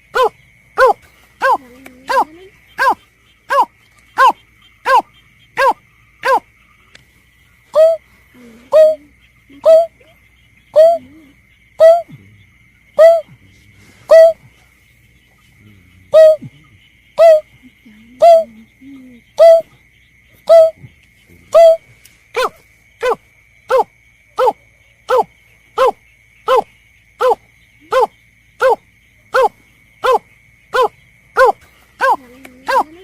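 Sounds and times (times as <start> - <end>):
snipe calls: 0.1 - 7.0, 7.6 - 14.6, 15.2 - 33.0.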